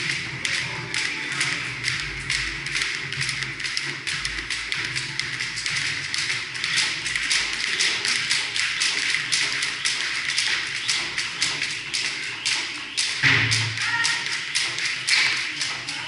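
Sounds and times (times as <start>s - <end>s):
rapid sharp taps and clicks: 0.0s - 16.0s
steady background noise: 0.0s - 16.0s.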